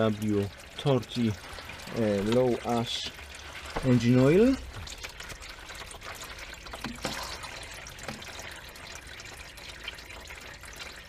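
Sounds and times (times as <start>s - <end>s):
oil dripping: 0.0s - 11.0s
oil trickling into a plastic pan: 0.0s - 11.0s.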